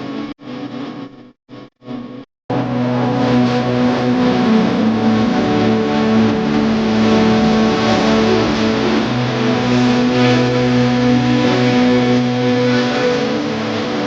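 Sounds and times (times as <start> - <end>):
background music with bass line: 2.5 - 14.0.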